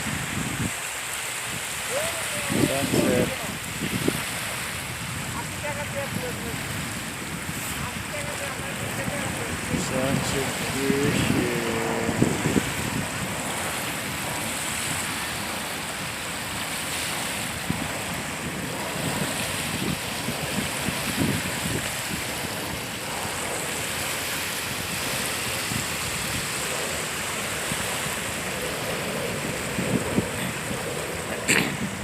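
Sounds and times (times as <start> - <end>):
small waves washing on shore: 0.0 - 32.0
wind buffeting microphone: 0.0 - 32.0.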